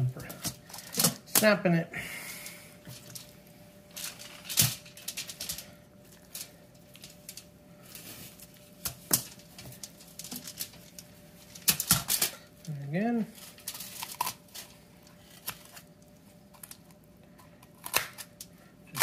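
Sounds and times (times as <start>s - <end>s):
aluminium foil crackling: 0.0s - 1.6s, 2.2s - 19.0s
faint steady hum: 0.0s - 19.0s.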